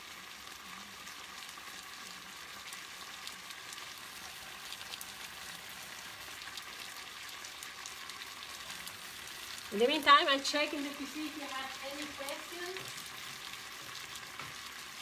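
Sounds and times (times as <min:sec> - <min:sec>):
pasta sizzling in a frying pan: 0:00.0 - 0:15.0.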